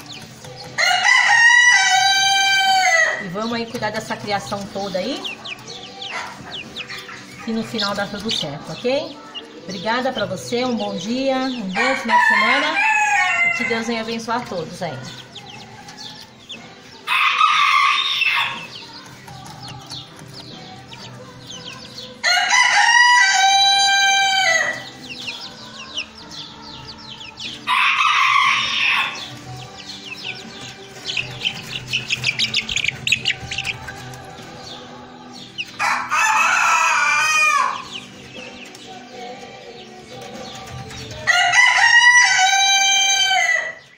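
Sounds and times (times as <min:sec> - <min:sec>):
chickens crowing: 0:00.0 - 0:43.9
chicks peeping: 0:00.0 - 0:43.9.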